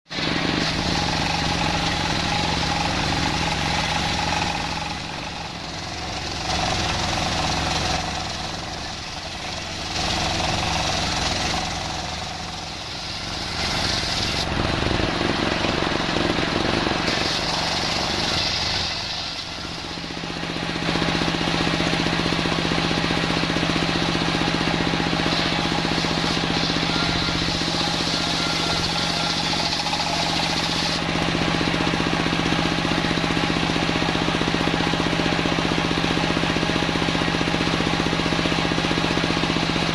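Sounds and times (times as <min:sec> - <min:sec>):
circular saw machine humming: 0:00.1 - 0:39.9.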